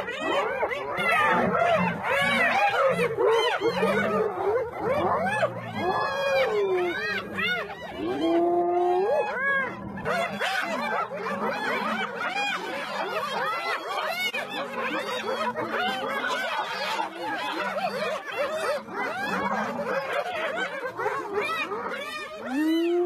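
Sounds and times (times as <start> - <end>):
hyenas giggling: 0.0 - 23.0.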